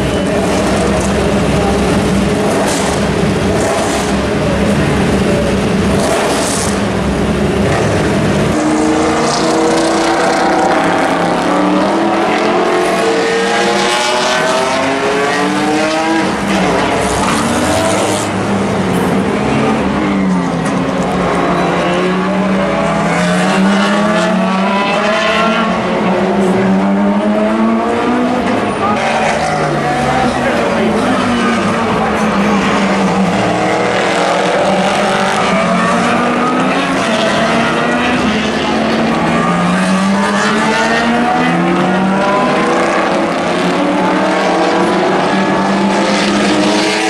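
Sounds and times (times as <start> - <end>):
race car engines rumbling: 0.0 - 47.0
race cars accelerating: 0.0 - 47.0.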